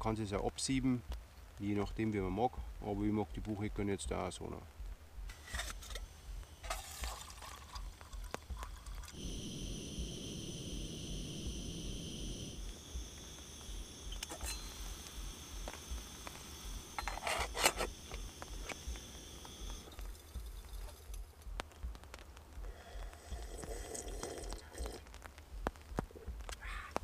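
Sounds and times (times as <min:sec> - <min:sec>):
steady high whine: 0:02.9 - 0:27.0.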